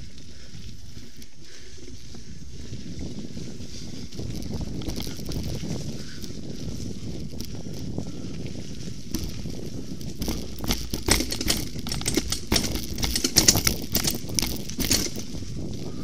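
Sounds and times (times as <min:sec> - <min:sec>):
bike rattling and clattering: 0:00.0 - 0:16.0
bike tyres rumbling on dirt: 0:00.0 - 0:16.0.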